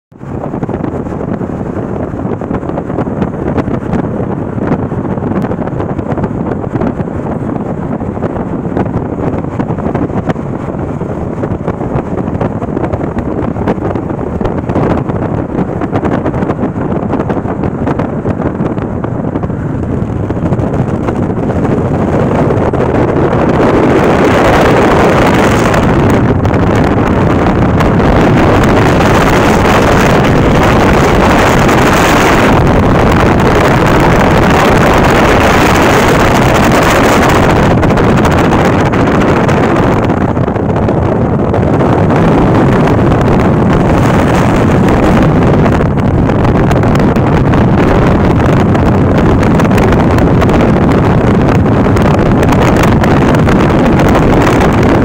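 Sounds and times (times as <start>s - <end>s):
car wind and road noise: 0.1s - 55.0s.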